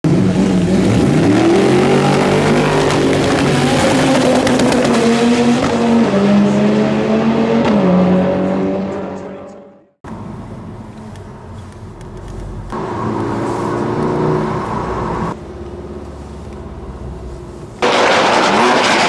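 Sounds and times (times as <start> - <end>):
car engine revving: 0.1 - 9.7, 12.2 - 19.0.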